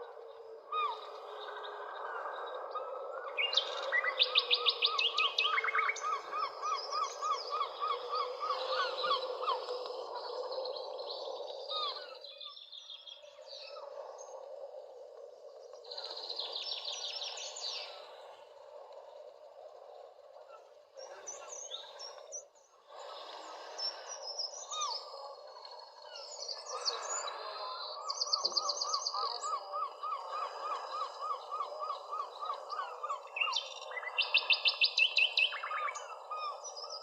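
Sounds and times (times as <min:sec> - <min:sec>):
birds singing: 0:00.0 - 0:14.6, 0:15.6 - 0:18.5, 0:20.4 - 0:37.0.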